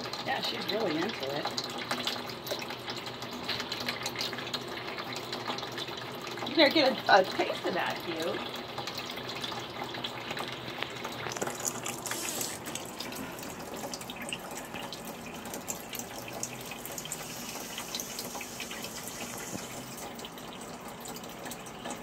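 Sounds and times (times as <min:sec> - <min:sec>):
tap water trickling into sink: 0:00.0 - 0:22.0
water drip ticks: 0:00.0 - 0:22.0.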